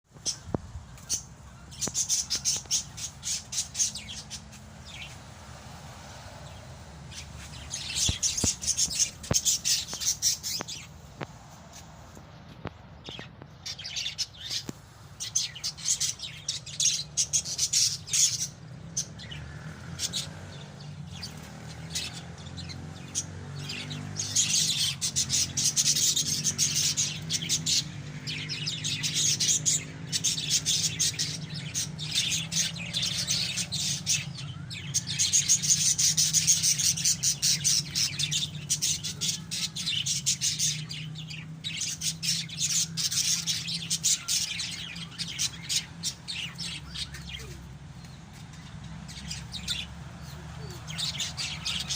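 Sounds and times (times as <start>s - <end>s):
lovebirds chirping: 0.1s - 51.9s.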